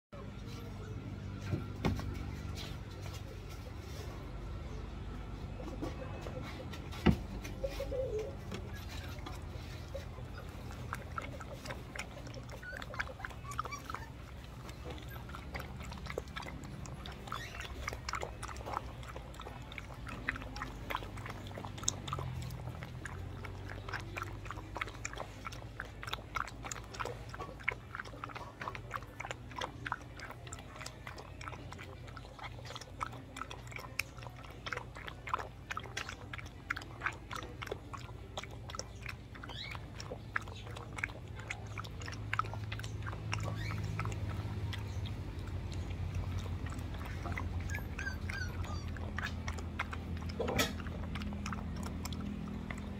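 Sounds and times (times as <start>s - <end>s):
puppy chewing from metal bowl: 0.2s - 52.9s.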